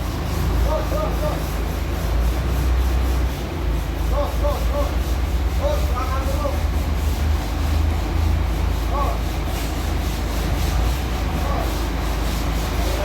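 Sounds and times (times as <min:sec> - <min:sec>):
heavy engine rumbling: 0:00.0 - 0:13.0.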